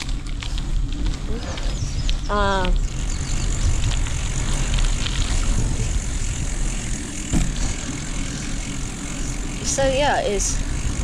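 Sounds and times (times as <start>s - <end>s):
bicycle tyre noise: 0.0s - 11.0s
wind rumbling on microphone: 0.0s - 11.0s.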